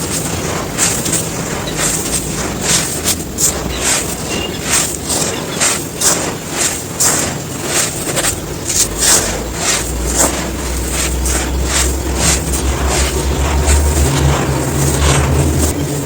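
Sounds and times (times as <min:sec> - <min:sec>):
low rumble: 0:00.0 - 0:16.0
sand crumbling in crunchy bursts: 0:00.0 - 0:16.0.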